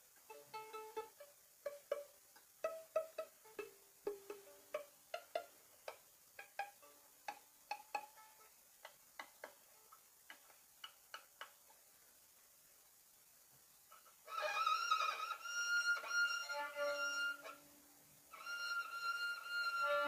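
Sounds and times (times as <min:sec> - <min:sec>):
violin pizzicato notes: 0:00.0 - 0:11.8, 0:14.1 - 0:20.0.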